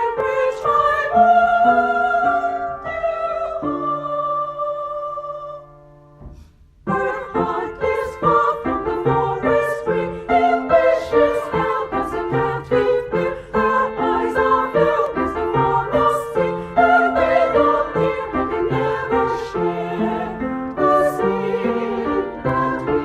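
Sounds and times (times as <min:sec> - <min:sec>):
women's choir singing: 0:00.0 - 0:05.8, 0:06.9 - 0:23.0
piano accompaniment: 0:00.0 - 0:23.0.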